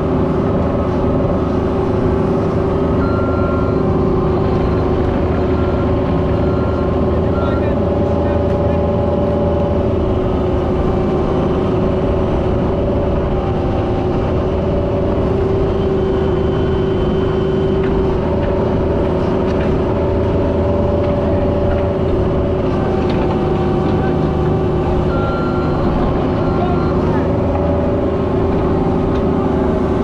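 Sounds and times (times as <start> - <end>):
diesel engine running: 0.0 - 30.0
whining tones: 0.0 - 30.0.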